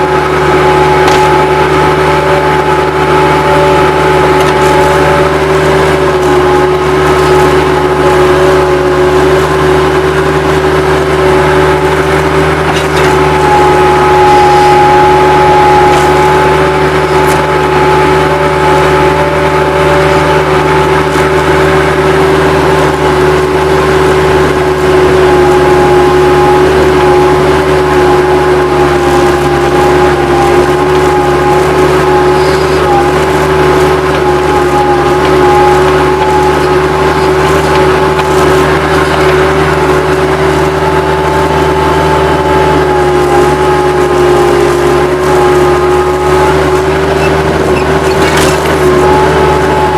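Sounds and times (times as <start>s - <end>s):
diesel engine running loudly: 0.0s - 49.9s
higher whine: 0.0s - 49.9s
steady whine: 0.0s - 49.9s.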